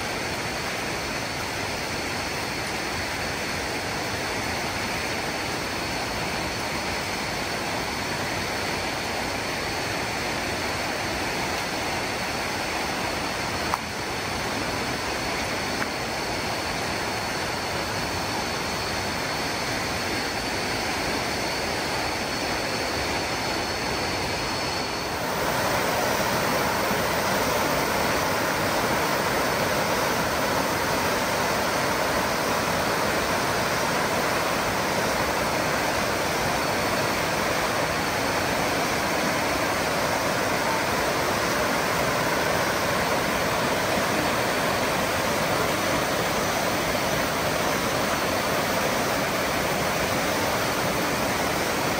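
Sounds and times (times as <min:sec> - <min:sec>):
faint high whine: 0:00.0 - 0:51.9
waterfall rushing: 0:00.0 - 0:51.9.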